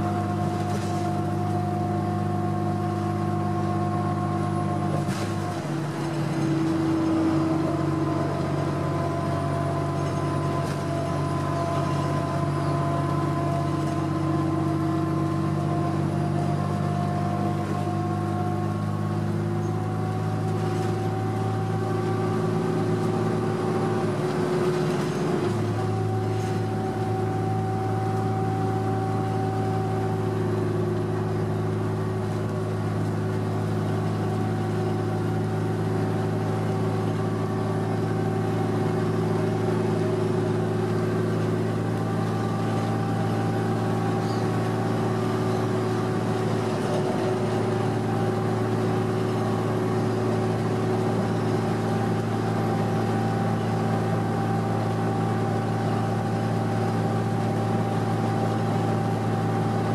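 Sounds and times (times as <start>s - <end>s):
bus diesel engine droning: 0.0s - 59.9s
road noise: 0.0s - 59.9s.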